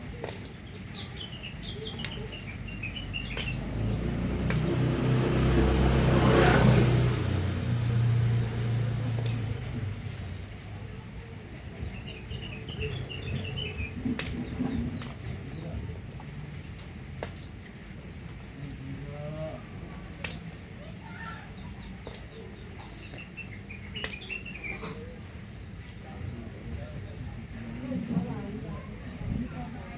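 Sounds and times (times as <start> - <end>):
bird chirping: 0.0 - 29.9
crickets chirping: 0.0 - 29.9.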